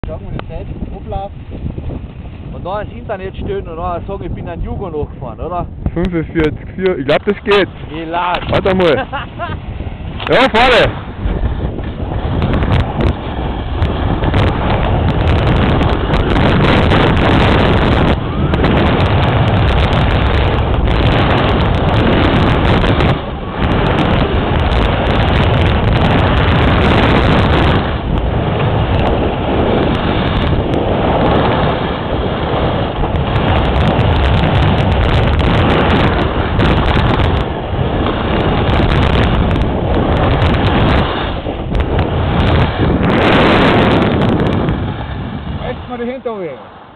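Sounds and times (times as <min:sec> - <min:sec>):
wind roaring over microphone: 0:00.0 - 0:46.9.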